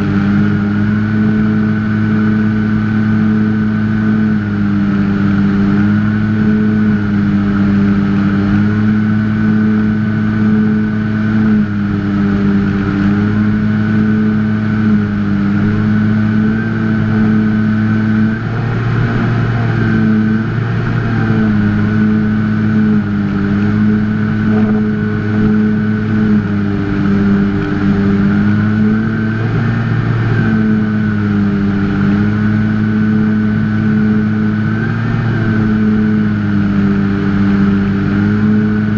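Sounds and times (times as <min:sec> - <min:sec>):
electric motor and propeller: 0:00.0 - 0:38.9
rush of air: 0:00.0 - 0:38.9.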